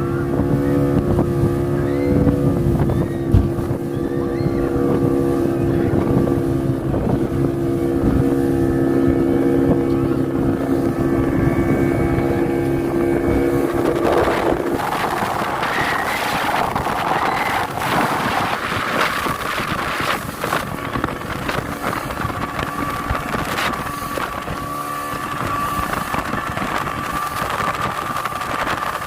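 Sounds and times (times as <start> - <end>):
motorboat engine running: 0.0 - 29.0
rush of wind and water: 0.0 - 29.0.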